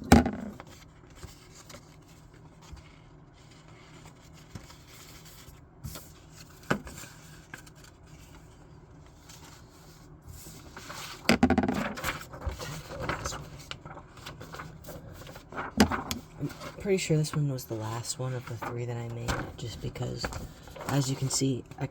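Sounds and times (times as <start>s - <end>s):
paper crinkling: 0.5s - 21.9s.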